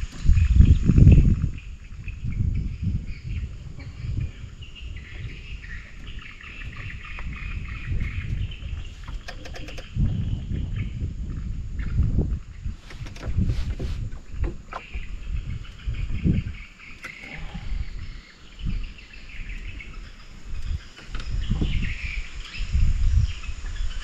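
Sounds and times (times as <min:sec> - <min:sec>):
dull low thumps: 0:00.0 - 0:16.6, 0:20.6 - 0:23.3
insects and birds chirping: 0:00.0 - 0:24.0.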